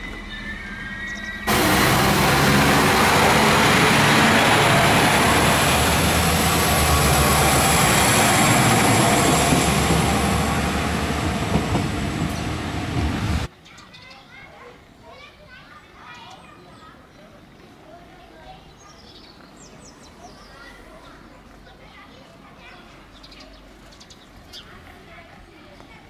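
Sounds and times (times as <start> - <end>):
railcar engine and wheels rumbling: 0.0 - 26.0.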